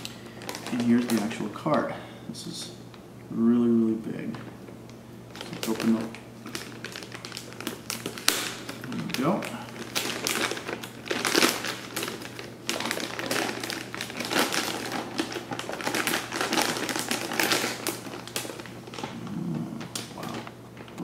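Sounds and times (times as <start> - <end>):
plastic bag crinkling: 0.0 - 1.9, 5.3 - 21.0.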